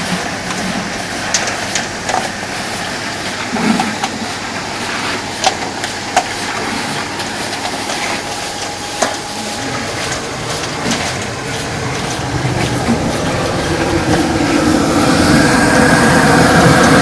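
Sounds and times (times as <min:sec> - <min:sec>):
rotary dryer rumbling and rattling: 0:00.0 - 0:17.0.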